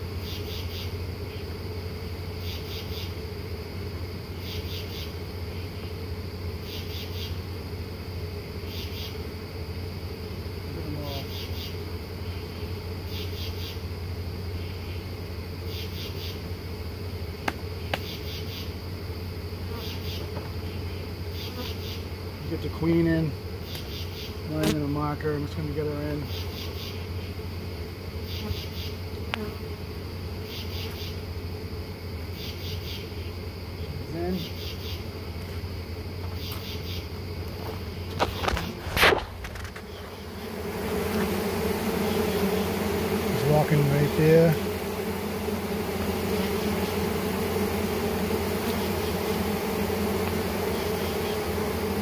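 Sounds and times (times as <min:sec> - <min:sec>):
honey bees buzzing: 0:00.0 - 0:52.0
insects chirping in short pulses: 0:00.0 - 0:52.0.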